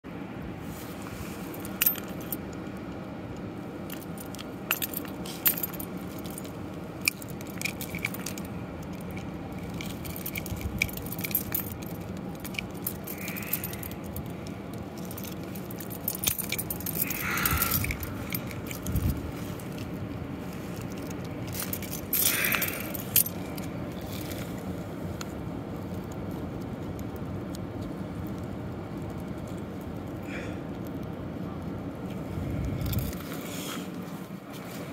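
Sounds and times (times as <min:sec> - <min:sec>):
steady low background rush: 0:00.1 - 0:34.4.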